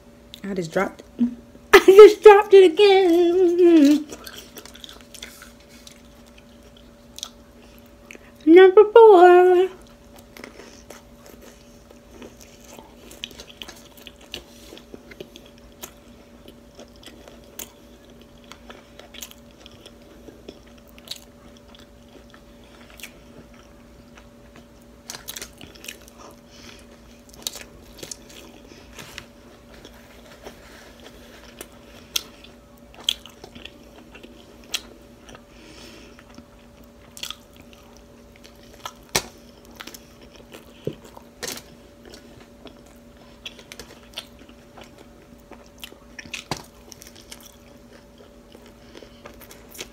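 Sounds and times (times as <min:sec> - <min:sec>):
faint steady hum: 0:00.0 - 0:49.9
person biting and chewing: 0:04.1 - 0:07.4, 0:10.1 - 0:35.4, 0:36.2 - 0:49.9.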